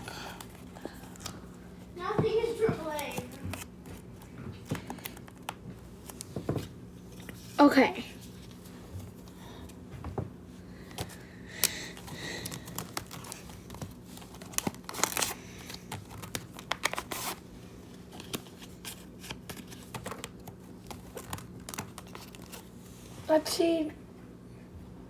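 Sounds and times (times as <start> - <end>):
packaging and cards crinkling: 0.0 - 9.4, 10.8 - 23.1.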